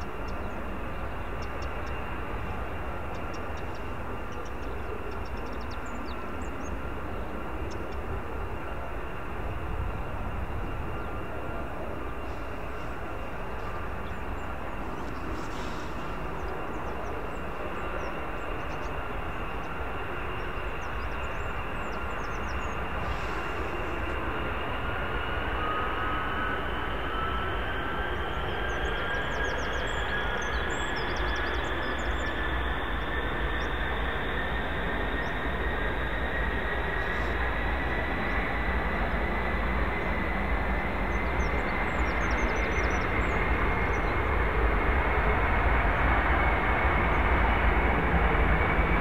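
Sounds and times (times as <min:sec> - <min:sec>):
jet engine whine: 0:00.0 - 0:49.0.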